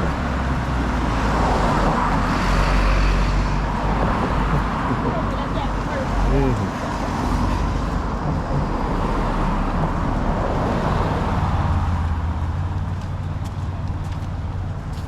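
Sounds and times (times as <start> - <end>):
car road noise: 0.0 - 15.0
low engine hum: 0.0 - 15.0.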